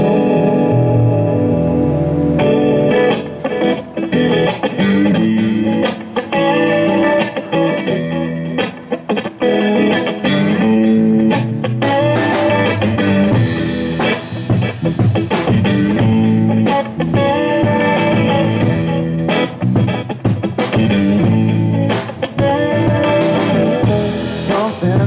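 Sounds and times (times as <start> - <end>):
live band with electric guitars: 0.0 - 25.0.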